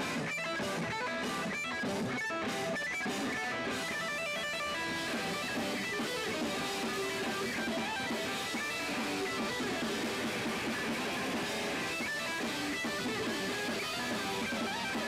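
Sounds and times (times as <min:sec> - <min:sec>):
electric guitar quick runs: 0:00.0 - 0:15.0
live band playing: 0:00.0 - 0:15.0.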